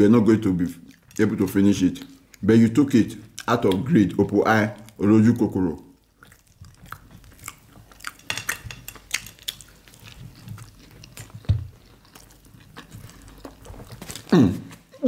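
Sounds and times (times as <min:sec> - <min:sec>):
chewing and mouth sounds: 0:00.6 - 0:14.9.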